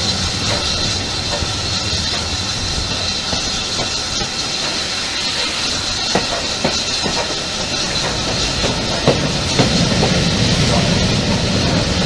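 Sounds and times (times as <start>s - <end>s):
train running from inside carriage: 0.0s - 12.0s.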